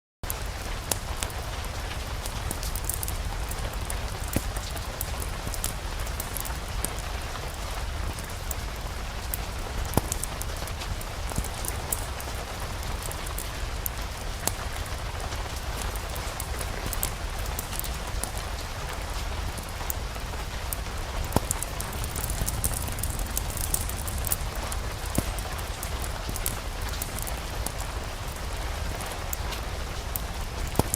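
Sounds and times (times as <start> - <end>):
steady rain falling: 0.2 - 30.9
fire crackling and popping: 0.3 - 30.9.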